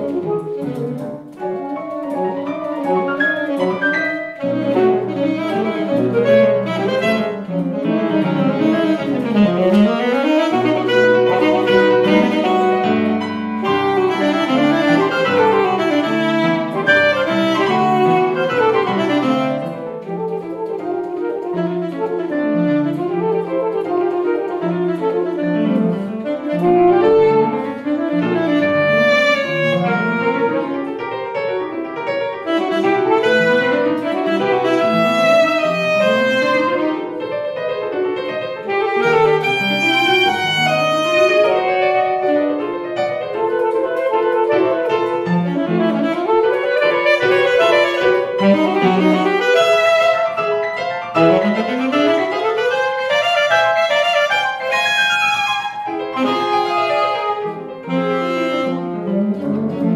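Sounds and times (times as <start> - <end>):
alto saxophone: 0.0 - 59.9
grand piano: 0.0 - 59.9.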